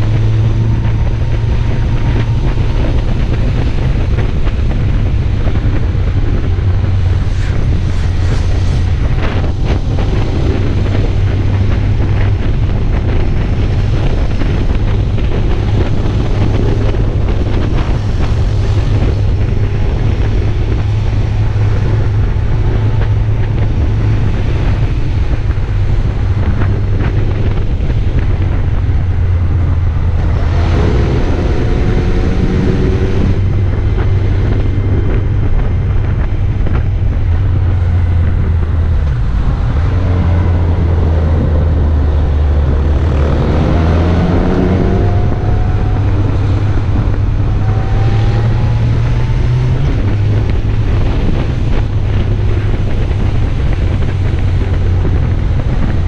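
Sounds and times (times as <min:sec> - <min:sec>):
tyres on the road: 0:00.0 - 0:56.0
vehicle engine hum: 0:00.0 - 0:56.0
wind rushing over microphone: 0:00.0 - 0:56.0.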